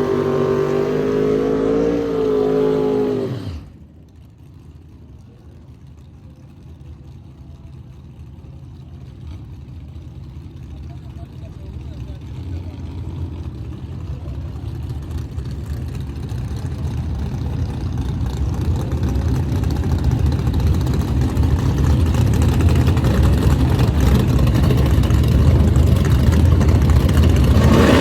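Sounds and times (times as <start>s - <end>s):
race car engines rumbling: 0.0s - 28.0s.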